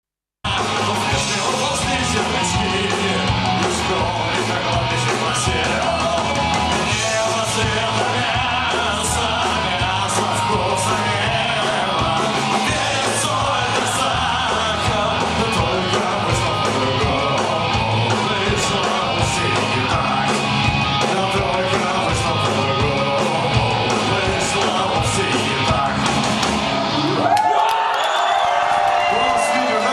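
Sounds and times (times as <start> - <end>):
punk rock band playing: 0.4 - 27.3
shouted singing: 0.5 - 29.9.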